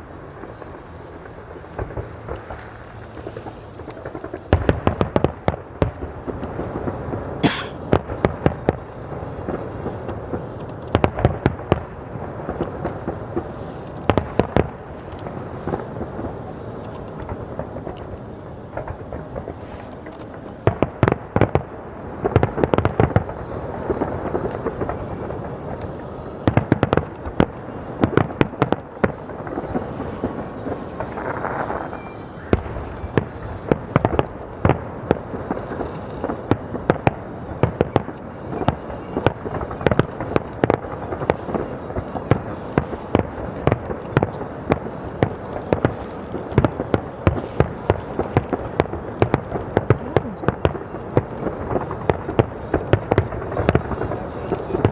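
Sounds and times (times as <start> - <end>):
fireworks bangs and crackles: 0.0 - 54.9
rumbling background: 0.0 - 54.9.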